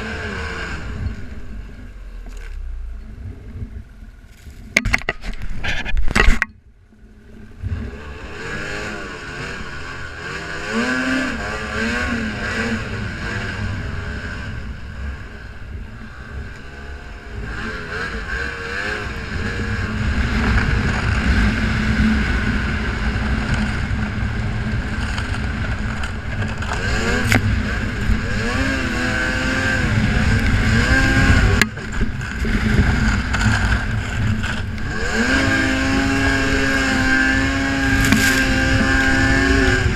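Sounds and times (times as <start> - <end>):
snowmobile engine revving: 0.0 - 1.8, 7.5 - 39.9.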